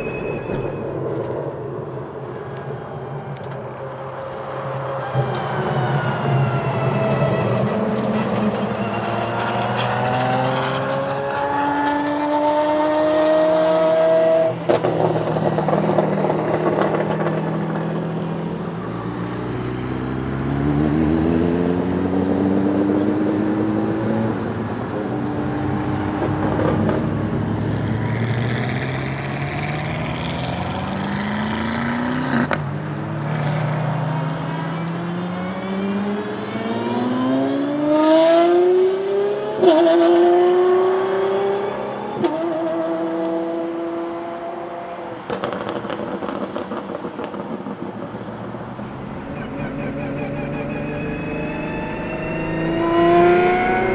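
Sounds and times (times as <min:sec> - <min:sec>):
car engine revving through gears: 0:05.1 - 0:48.0, 0:48.8 - 0:53.9.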